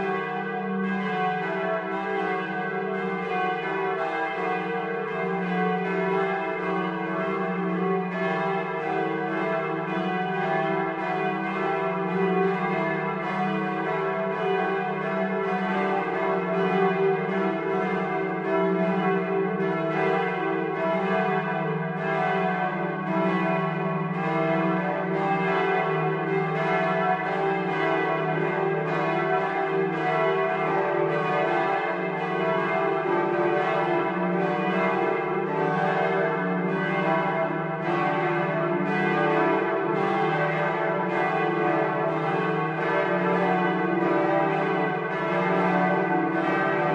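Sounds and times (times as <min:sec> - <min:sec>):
church bells ringing in a peal: 0:00.0 - 0:46.9.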